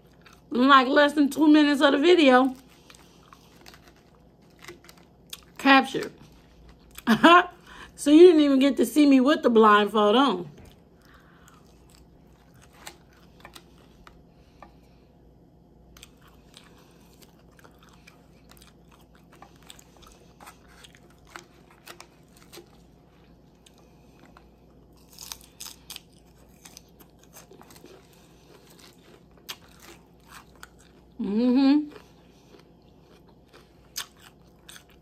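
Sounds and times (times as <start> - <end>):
salad being chewed and crunched: 0.0 - 0.5, 2.5 - 7.1, 10.6 - 15.1, 15.7 - 31.2, 31.8 - 35.0.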